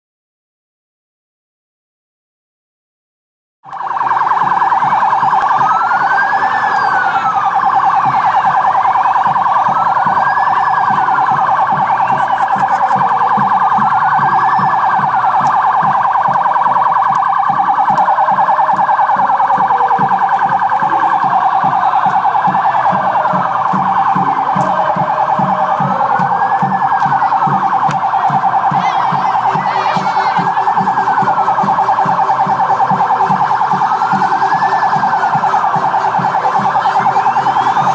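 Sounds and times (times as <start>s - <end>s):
siren wailing: 3.6s - 37.9s.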